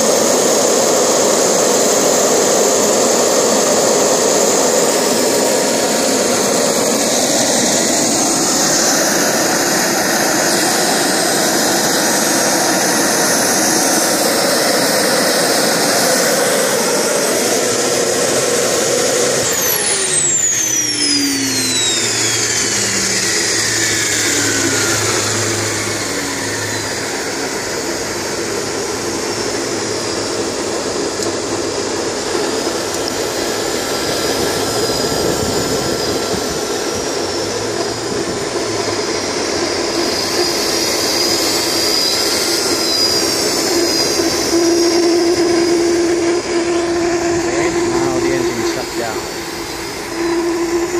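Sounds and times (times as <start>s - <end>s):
gas turbine jet whine: 0.0s - 50.9s.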